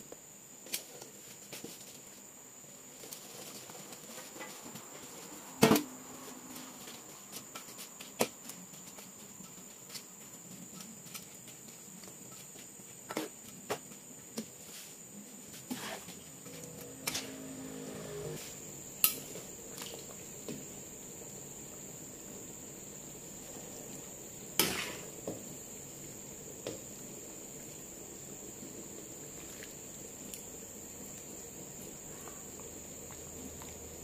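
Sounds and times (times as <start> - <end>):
cricket trill: 0.1 - 34.0.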